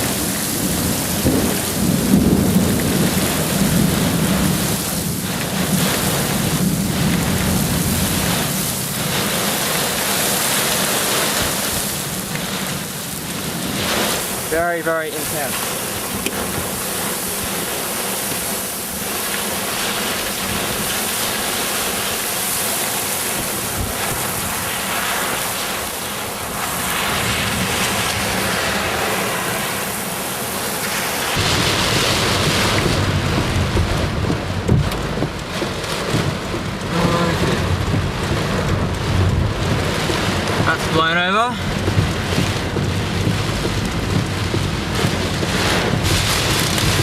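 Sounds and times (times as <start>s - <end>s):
rain and hail pounding on car: 0.0s - 47.0s
strong wind buffeting car: 0.0s - 47.0s.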